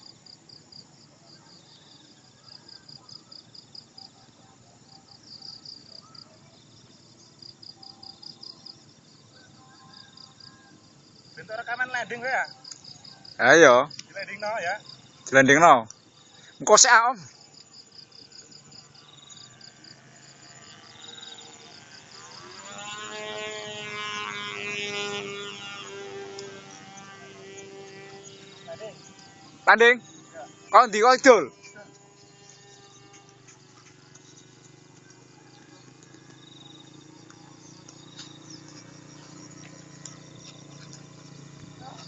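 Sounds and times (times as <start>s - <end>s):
crickets chirping: 0.0s - 42.0s
insects trilling: 0.0s - 42.0s
model plane engine buzzing: 0.0s - 42.0s.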